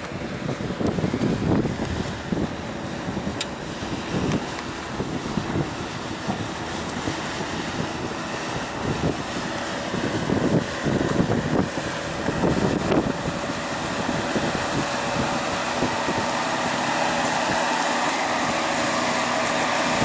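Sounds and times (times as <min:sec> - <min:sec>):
car engine running at low speed: 0:00.0 - 0:20.0
wind buffeting microphone: 0:00.0 - 0:20.0.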